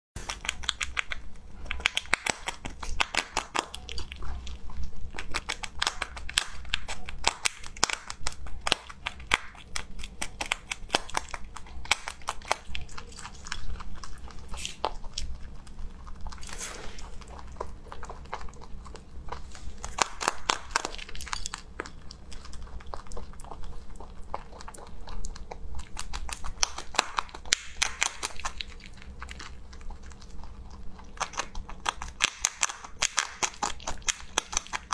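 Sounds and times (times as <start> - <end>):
rabbit crunching a hard treat: 0.2 - 34.9.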